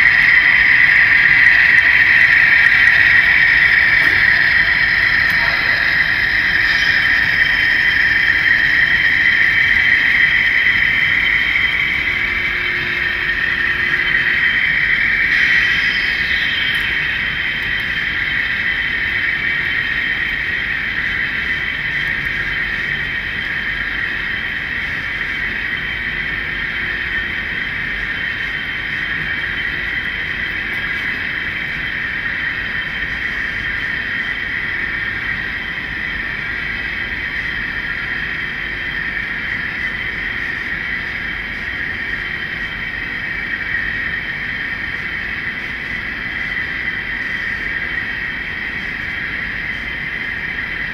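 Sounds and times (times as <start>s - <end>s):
model train running on track: 0.0s - 50.9s.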